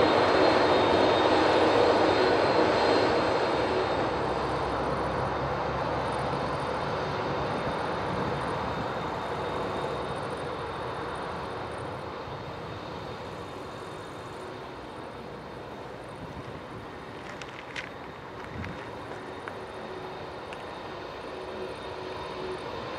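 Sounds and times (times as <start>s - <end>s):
jet engine rumble: 0.0s - 22.9s.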